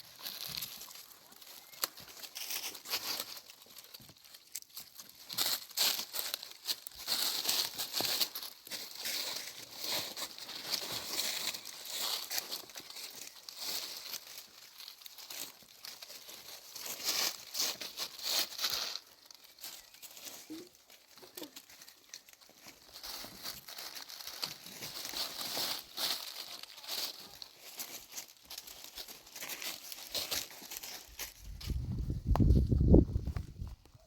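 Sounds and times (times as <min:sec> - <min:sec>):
crinkling and rustling: 0:00.0 - 0:34.0.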